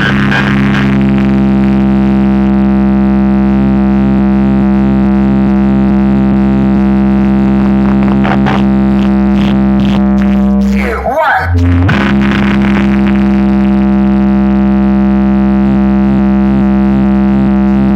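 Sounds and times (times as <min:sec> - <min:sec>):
electronic bass drone: 0:00.0 - 0:17.9.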